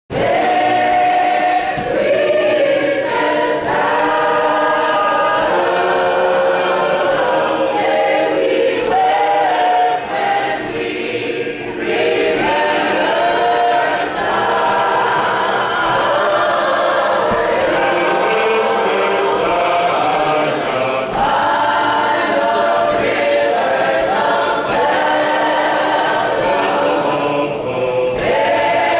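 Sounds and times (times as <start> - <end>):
choir singing: 0.1 - 28.9.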